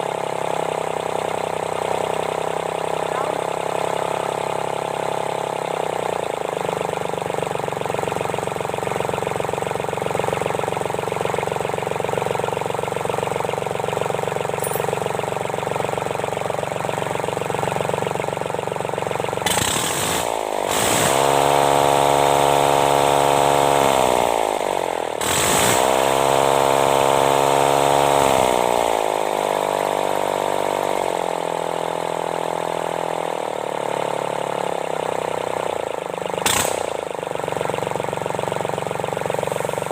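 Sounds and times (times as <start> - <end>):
diesel tractor engine idling and revving: 0.0 - 39.9.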